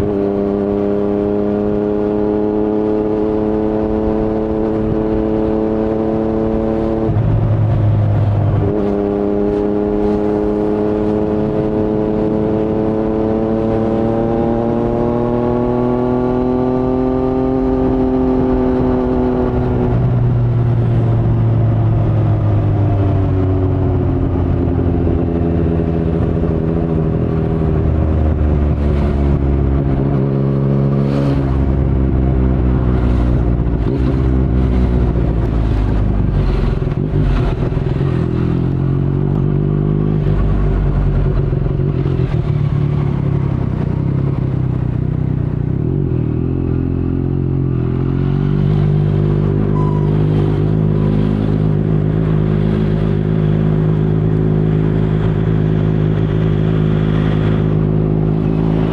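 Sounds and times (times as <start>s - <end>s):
motorcycle engine: 0.0s - 58.9s.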